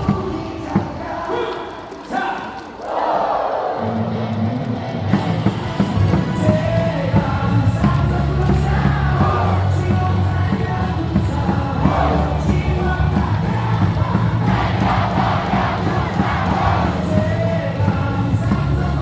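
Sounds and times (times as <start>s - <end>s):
cheering music over loudspeakers: 0.0s - 19.0s
crowd singing and shouting: 0.0s - 19.0s.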